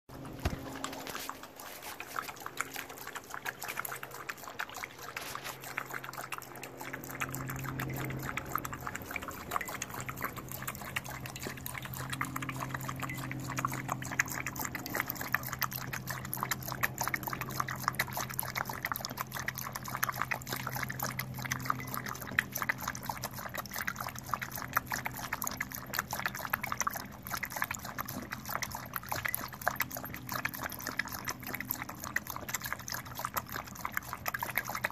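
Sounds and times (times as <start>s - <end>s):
dog lapping water from metal bowl: 0.1s - 34.9s.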